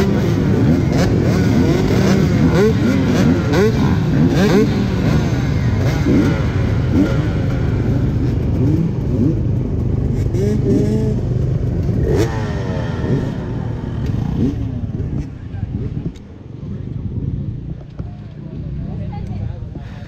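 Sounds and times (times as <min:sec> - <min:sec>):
dirt bikes idling and revving: 0:00.0 - 0:20.0.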